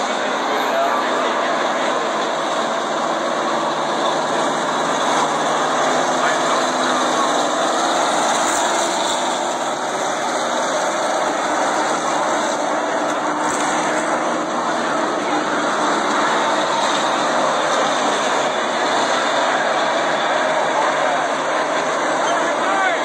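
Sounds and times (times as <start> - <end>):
race car engines at speed: 0.0 - 23.0.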